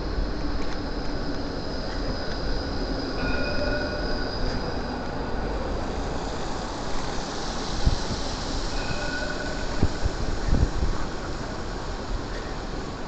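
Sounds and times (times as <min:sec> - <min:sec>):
steady train rumble: 0:00.0 - 0:13.0
train wheels squealing on track: 0:00.8 - 0:13.0.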